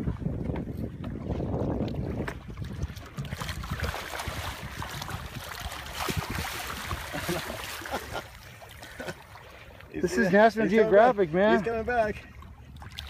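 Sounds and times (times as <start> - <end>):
crackling splashes: 0.0 - 11.1, 12.0 - 13.0
water splashing and churning: 0.0 - 13.0.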